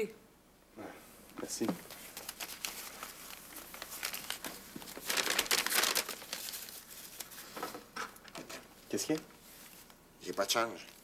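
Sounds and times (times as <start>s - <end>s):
paper crinkling and rustling: 1.6s - 11.0s.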